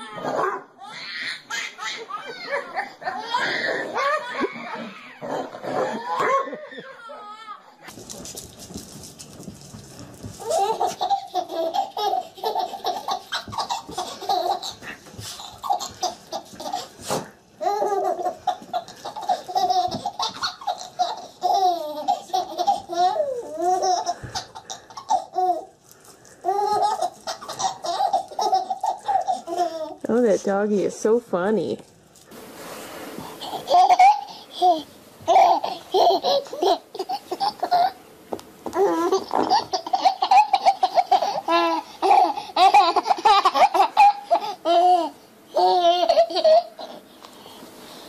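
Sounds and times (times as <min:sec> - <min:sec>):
baby laughing: 0:00.0 - 0:07.9, 0:10.4 - 0:25.8, 0:26.4 - 0:30.0, 0:33.3 - 0:38.0, 0:38.7 - 0:47.0.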